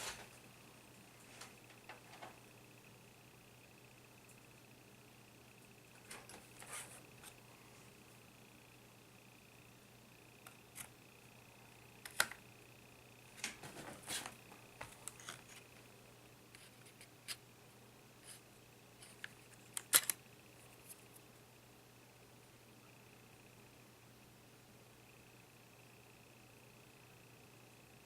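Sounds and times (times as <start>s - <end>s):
faint hum: 0.0s - 28.0s.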